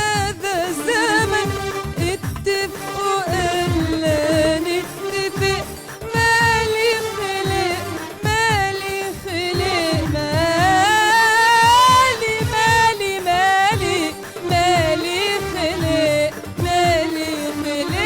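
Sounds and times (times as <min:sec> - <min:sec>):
instrumental accompaniment: 0:00.0 - 0:18.0
woman singing: 0:00.0 - 0:18.0.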